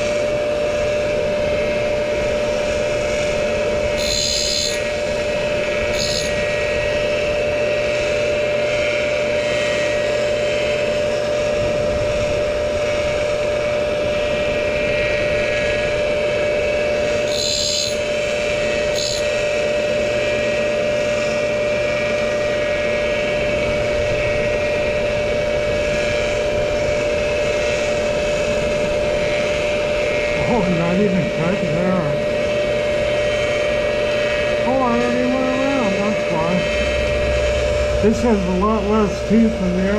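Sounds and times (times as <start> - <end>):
grinder motor and spindle whine: 0.0 - 39.9
grinding wheel cutting metal: 0.0 - 39.9.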